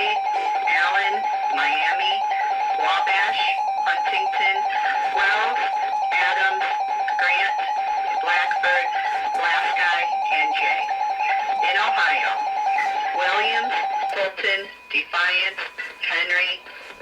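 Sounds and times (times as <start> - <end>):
garbled voice broadcast: 0.0 - 16.6
steady alarm tone: 0.0 - 17.0.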